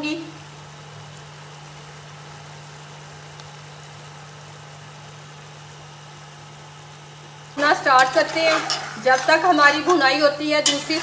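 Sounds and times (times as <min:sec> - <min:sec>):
spices sizzling in hot oil: 0:00.0 - 0:11.0.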